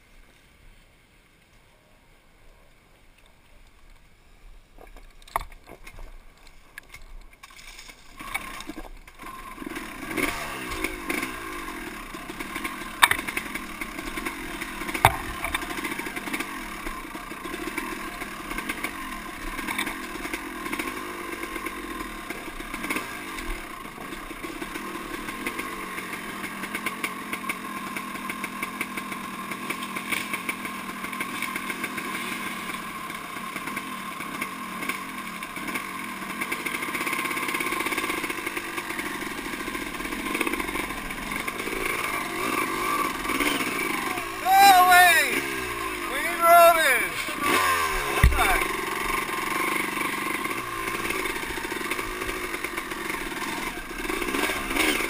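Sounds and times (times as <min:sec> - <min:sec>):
dirt bike engine running: 0:07.4 - 0:55.0.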